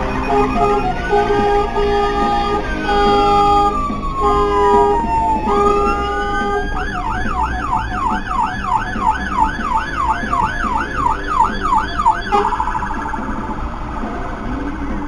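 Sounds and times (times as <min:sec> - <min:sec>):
fire engine siren: 0:00.0 - 0:14.9.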